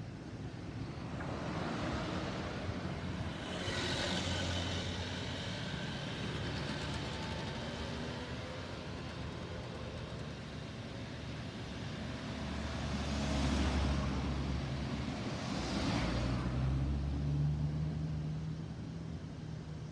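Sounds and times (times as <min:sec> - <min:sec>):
cars passing by: 0:00.6 - 0:19.9.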